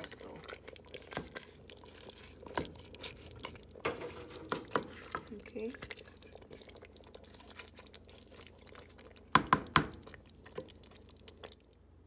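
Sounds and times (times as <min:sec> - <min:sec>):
wooden spoon stirring in a pot: 0:00.0 - 0:11.7.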